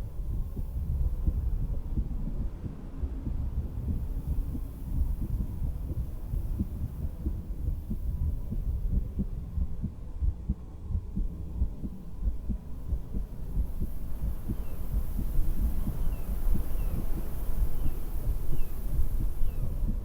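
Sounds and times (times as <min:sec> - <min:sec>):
heartbeat thumps: 0:00.0 - 0:20.0.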